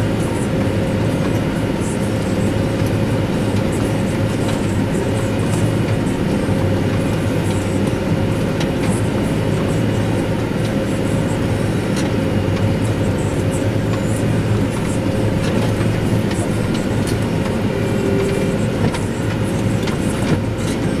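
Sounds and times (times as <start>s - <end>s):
machinery clicks and rattles: 0.0s - 21.0s
tractor engine drone: 0.0s - 21.0s.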